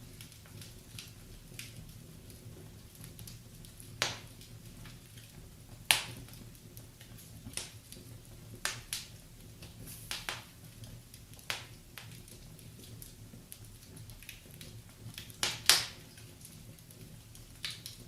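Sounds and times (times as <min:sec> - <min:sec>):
low steady hiss: 0:00.0 - 0:18.0
wood fire crackling: 0:00.0 - 0:18.0.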